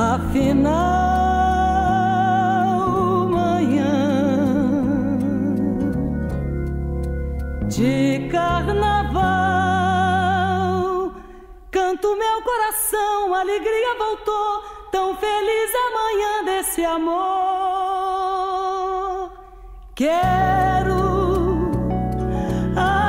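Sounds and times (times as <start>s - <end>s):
woman singing with vibrato: 0.0s - 6.3s, 7.7s - 23.0s.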